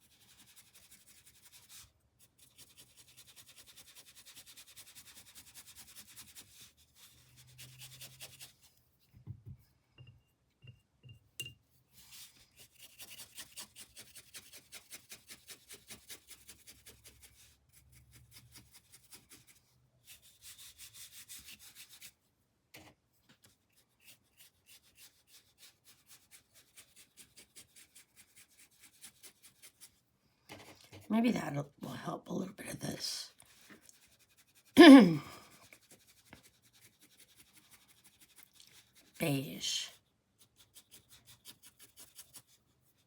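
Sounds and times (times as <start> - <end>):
paintbrush scrubbing on canvas: 0.0 - 9.1, 12.0 - 22.2, 23.4 - 31.5, 32.8 - 43.0.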